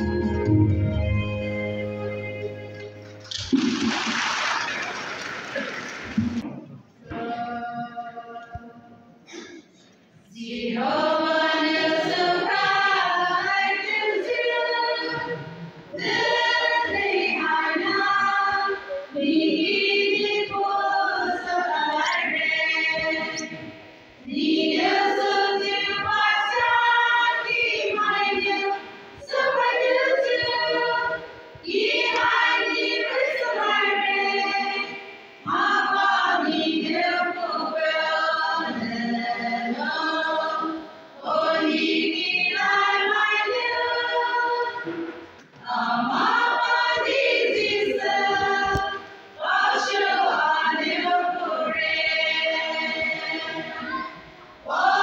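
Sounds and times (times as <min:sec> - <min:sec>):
women's choir singing: 0:07.0 - 0:09.6, 0:10.2 - 0:55.0.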